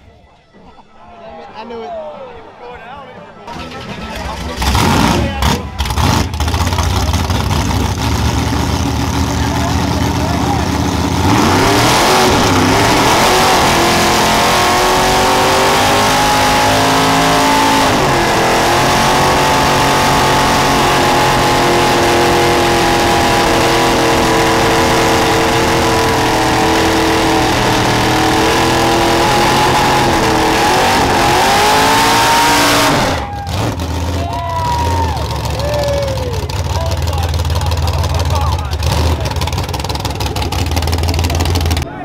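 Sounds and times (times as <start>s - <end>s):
pickup engine revving: 3.5s - 41.9s.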